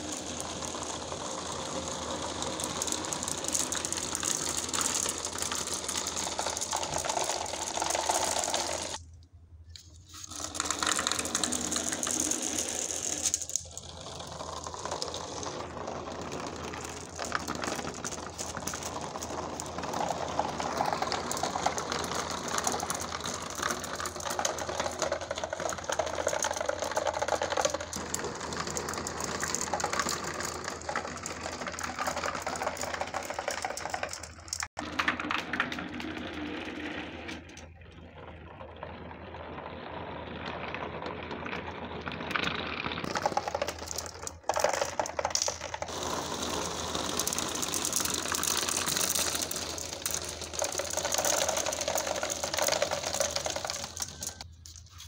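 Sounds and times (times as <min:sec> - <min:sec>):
glass marbles rattling: 0:00.0 - 0:09.0, 0:10.1 - 0:35.9, 0:43.0 - 0:55.0.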